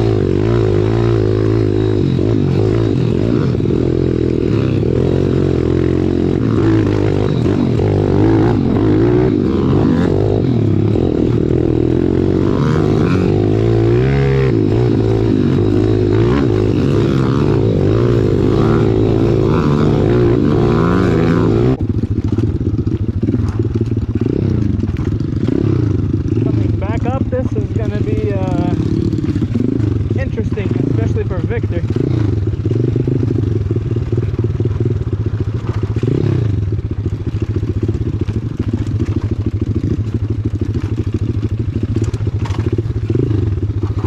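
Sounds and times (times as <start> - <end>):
small motorcycle engine revving: 0.0 - 44.0.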